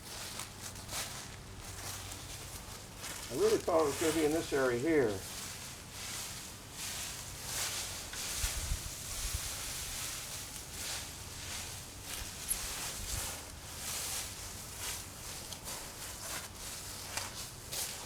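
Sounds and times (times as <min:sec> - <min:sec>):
dry weeds rustling: 0:00.0 - 0:18.0.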